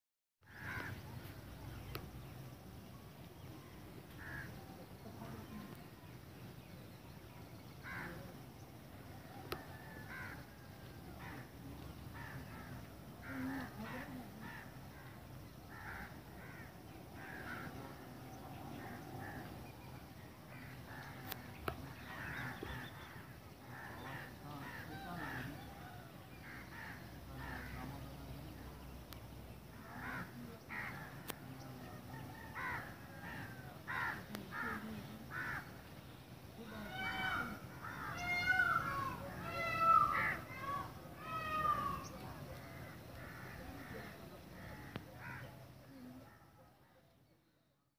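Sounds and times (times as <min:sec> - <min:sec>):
birds calling harshly: 0:00.4 - 0:02.7, 0:03.3 - 0:46.3
birds chattering: 0:00.4 - 0:47.7.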